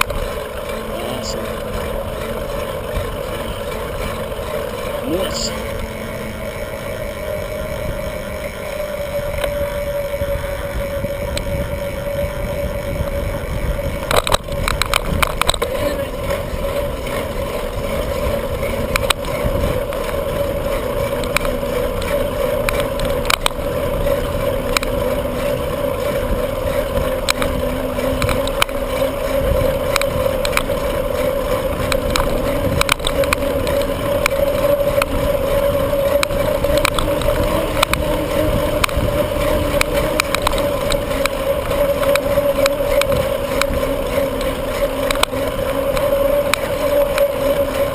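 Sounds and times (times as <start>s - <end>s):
bike rattles and knocks: 0.0s - 47.9s
mid-pitched hum: 0.0s - 47.9s
wind and road noise: 0.0s - 47.9s.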